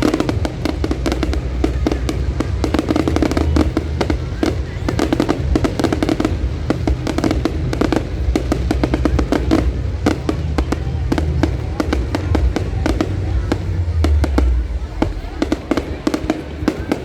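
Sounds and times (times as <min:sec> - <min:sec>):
fireworks bangs and crackles: 0:00.0 - 0:17.0
low rumble: 0:00.0 - 0:17.0.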